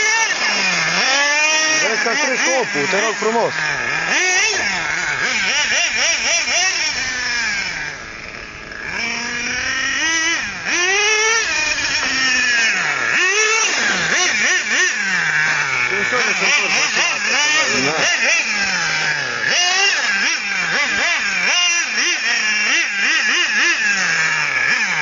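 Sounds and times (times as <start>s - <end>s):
rc car nitro engine revving: 0.0s - 25.0s.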